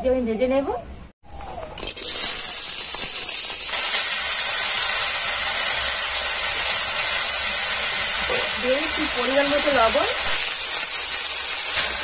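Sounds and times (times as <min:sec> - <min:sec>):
vegetables sizzling in hot oil: 0:01.8 - 0:12.0.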